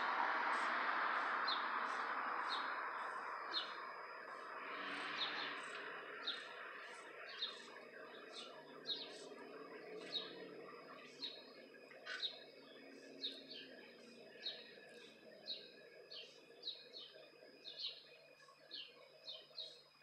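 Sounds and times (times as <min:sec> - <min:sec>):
small bird chirping: 0:00.5 - 0:19.9.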